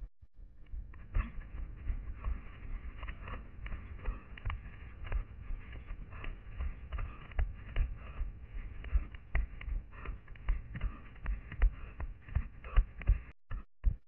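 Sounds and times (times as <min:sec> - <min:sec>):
running footsteps on forest floor: 0:01.8 - 0:13.3.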